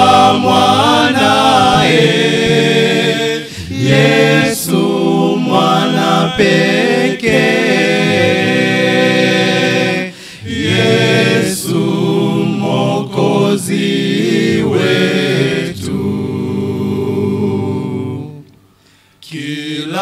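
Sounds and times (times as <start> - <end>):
male choir singing a cappella hymn: 0.0 - 18.6, 19.2 - 20.0.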